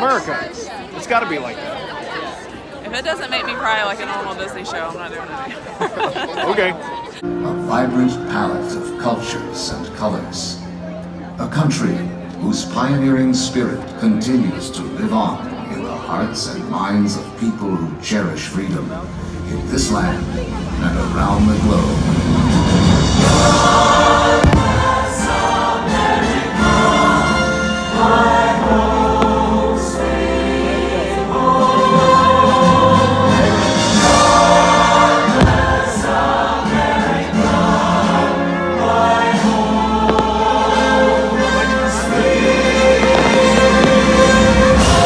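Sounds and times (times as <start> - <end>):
choir with orchestral music: 7.0 - 45.0.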